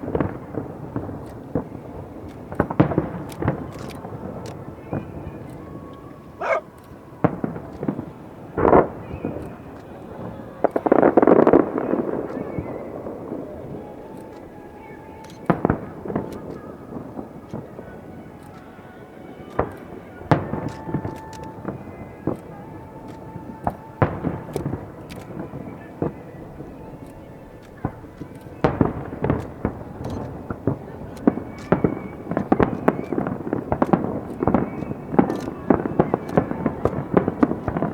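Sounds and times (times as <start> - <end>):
fireworks shells bursting: 0.0 - 37.9.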